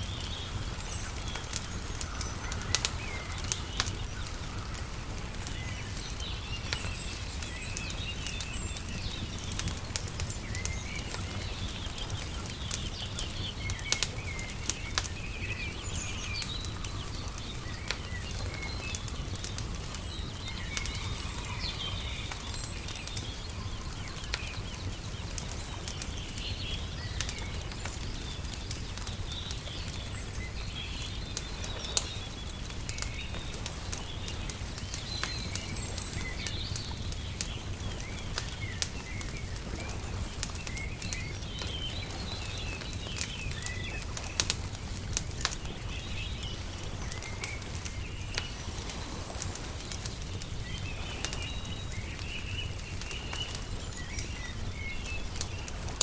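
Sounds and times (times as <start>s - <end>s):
small birds chirping: 0.0s - 56.0s
wood fire crackling and popping: 0.0s - 56.0s.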